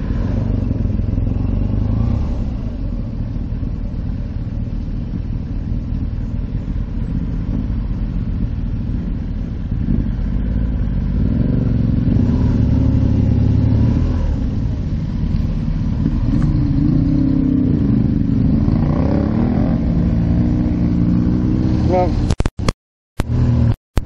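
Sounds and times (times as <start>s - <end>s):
low rumble: 0.0s - 22.4s
motorcycle engine revving: 0.0s - 22.5s, 23.2s - 23.8s.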